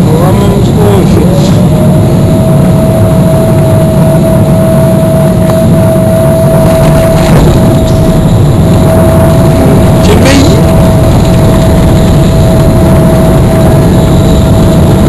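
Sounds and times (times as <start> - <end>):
airflow and jet engine rush: 0.0 - 15.0
thin steady whine: 0.0 - 15.0.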